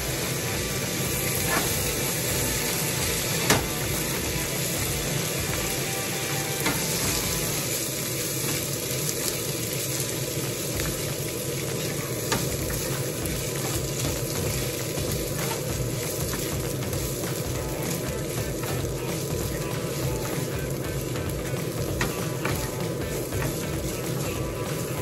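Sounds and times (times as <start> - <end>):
rice sizzling in hot oil: 0.0 - 25.0.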